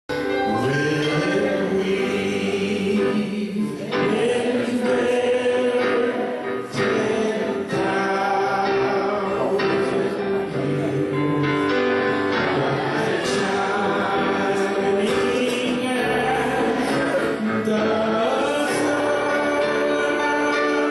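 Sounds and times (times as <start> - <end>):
group singing a hymn: 0.2 - 20.9.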